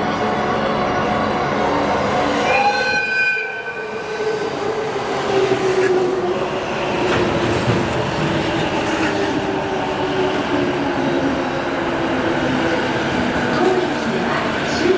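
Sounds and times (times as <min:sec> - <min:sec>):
train rumble and rail noise: 0:00.0 - 0:14.9.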